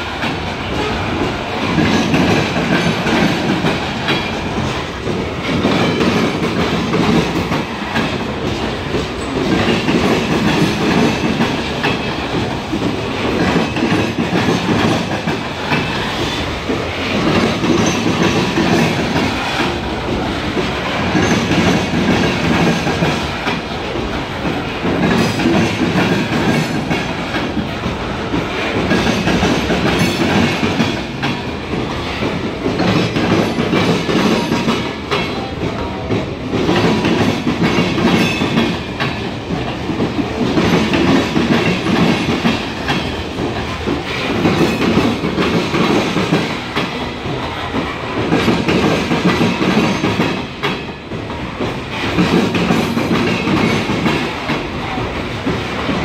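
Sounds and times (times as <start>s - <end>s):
coal train rolling past: 0.0s - 56.0s
steel wheels clacking on rails: 0.0s - 56.0s.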